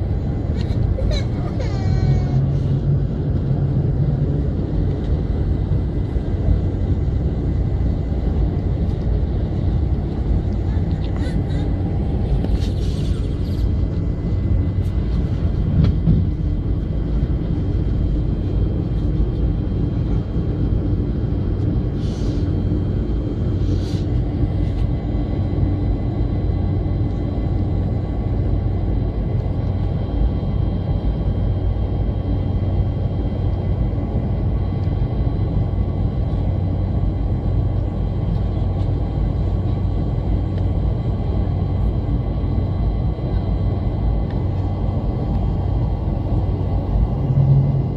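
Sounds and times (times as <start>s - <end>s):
airliner cabin engine rumble: 0.0s - 47.9s.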